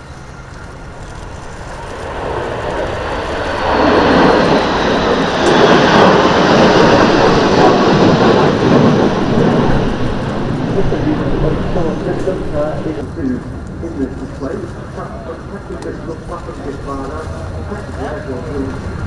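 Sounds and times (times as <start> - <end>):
jets flying past: 0.3 - 19.0
high jet whine falling in pitch: 0.4 - 19.0.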